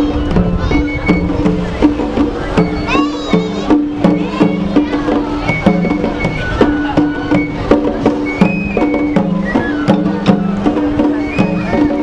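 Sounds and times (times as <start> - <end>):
high flute melody: 0.0 - 12.0
taiko drums: 0.0 - 12.0.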